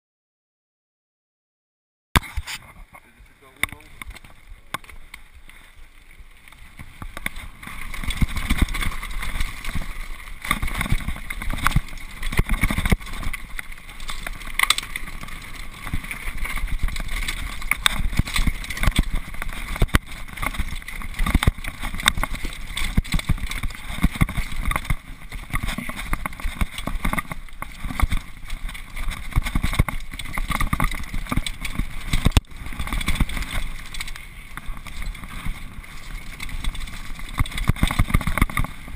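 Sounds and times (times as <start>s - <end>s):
bike clattering and rattling: 3.4s - 38.9s.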